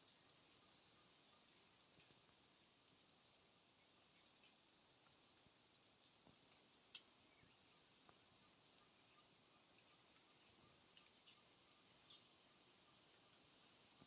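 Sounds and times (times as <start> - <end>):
faint forest ambience: 0.0 - 14.0.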